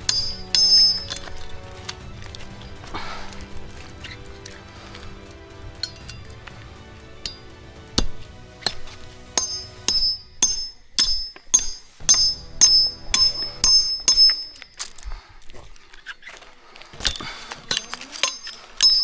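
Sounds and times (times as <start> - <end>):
ringing metal strikes: 0.0 - 15.0, 17.0 - 19.0.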